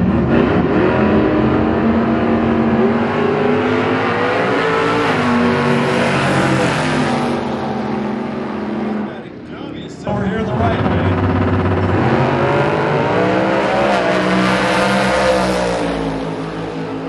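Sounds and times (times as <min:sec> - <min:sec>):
drag-race car accelerating: 0:00.0 - 0:17.0.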